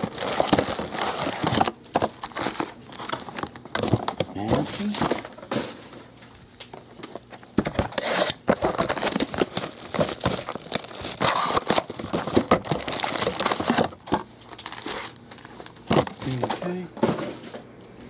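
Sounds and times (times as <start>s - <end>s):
plastic wrapping crinkling and tearing: 0.0s - 5.4s, 6.6s - 16.9s.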